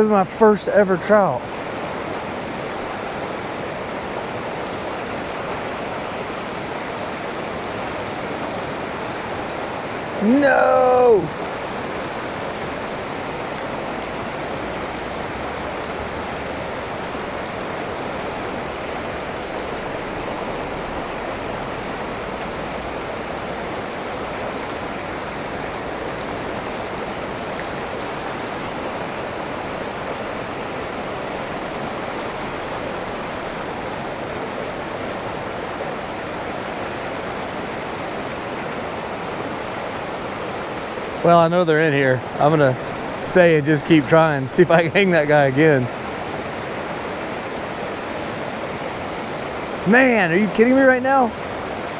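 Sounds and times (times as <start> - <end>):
creek rushing over rocks: 0.0 - 51.9.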